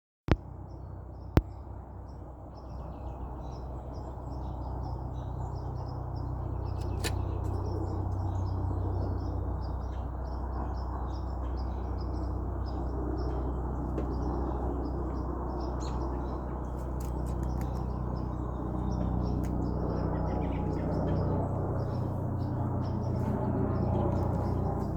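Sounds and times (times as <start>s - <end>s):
steady low rumble: 0.3s - 24.9s
small birds chirping: 0.7s - 24.9s.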